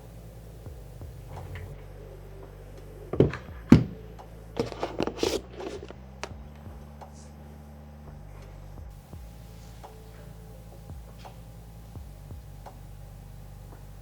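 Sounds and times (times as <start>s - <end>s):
low background music hum: 0.0s - 14.0s.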